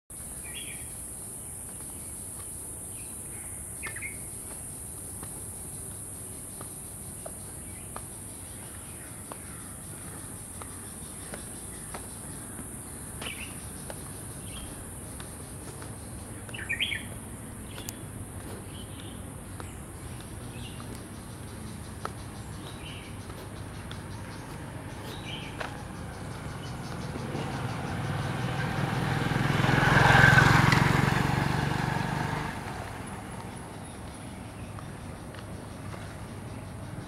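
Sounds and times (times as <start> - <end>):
birds chirping: 0.1 - 37.0.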